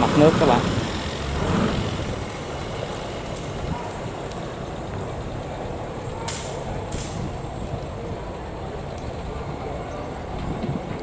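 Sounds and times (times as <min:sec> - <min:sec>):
barge engine rumbling: 0:00.0 - 0:11.0.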